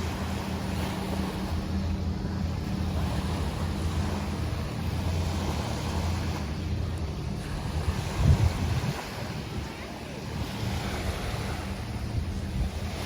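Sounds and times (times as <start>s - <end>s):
small waves washing on shore: 0.0s - 13.0s
wind rumbling on microphone: 0.0s - 13.0s.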